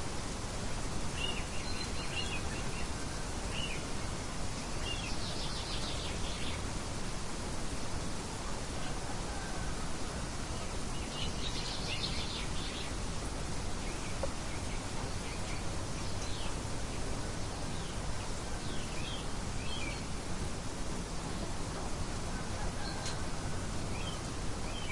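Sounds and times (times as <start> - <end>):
rain hissing: 0.0 - 24.9
songbirds chirping: 0.1 - 24.9.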